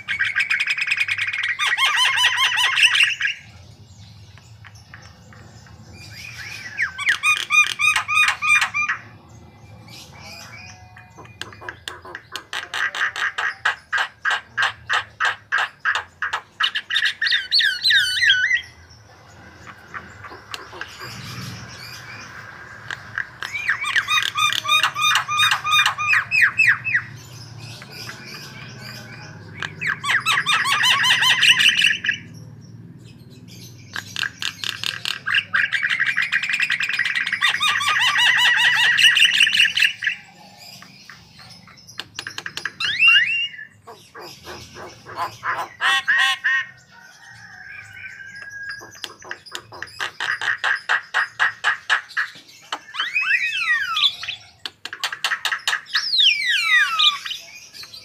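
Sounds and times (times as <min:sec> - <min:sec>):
myna bird chattering song: 0:00.0 - 0:58.0.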